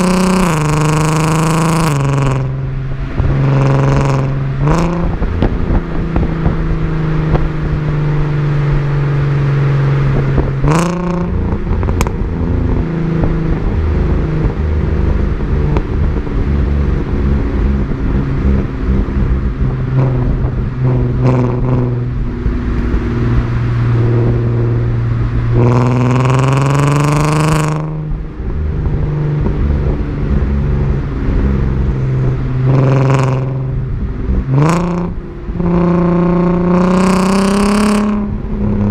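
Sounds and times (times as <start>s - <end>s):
car engine revving through gears: 0.0s - 38.9s
exhaust cracks: 0.0s - 38.9s.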